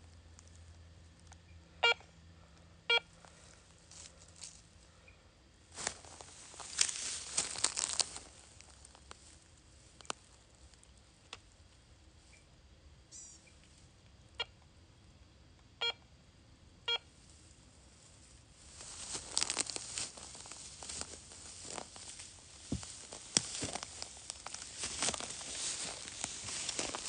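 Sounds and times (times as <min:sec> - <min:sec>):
dry grass and leaves rustling: 0:02.4 - 0:14.0, 0:17.0 - 0:27.0.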